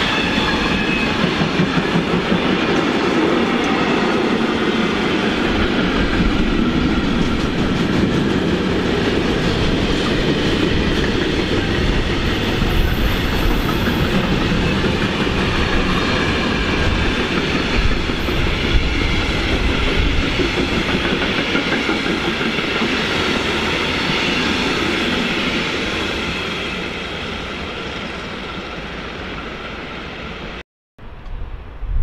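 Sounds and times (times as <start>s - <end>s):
train wheels rumbling on rails: 0.0s - 30.3s.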